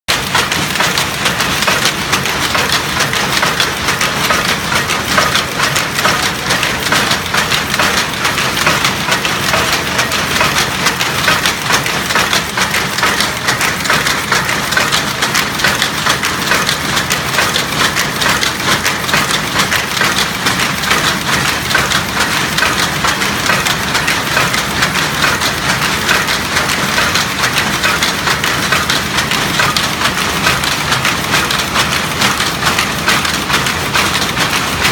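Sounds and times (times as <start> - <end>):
weaving loom clattering: 0.1 - 34.9.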